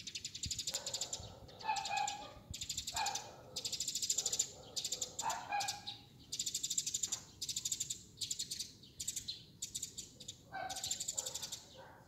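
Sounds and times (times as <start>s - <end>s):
small birds chirping trills: 0.0s - 12.0s.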